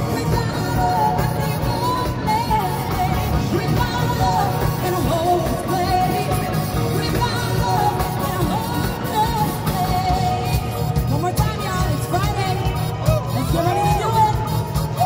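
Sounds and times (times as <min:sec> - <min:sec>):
drums: 0:00.0 - 0:15.0
group of singers: 0:00.0 - 0:15.0
keyboard: 0:00.0 - 0:15.0.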